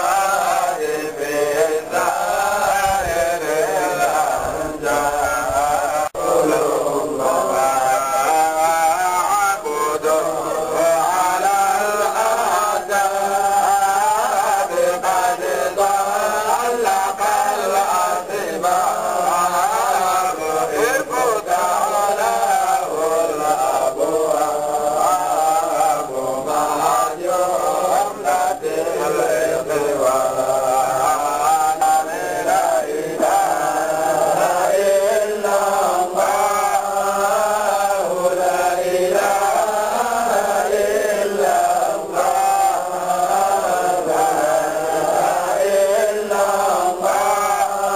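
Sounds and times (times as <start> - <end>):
man chanting: 0.0 - 47.9.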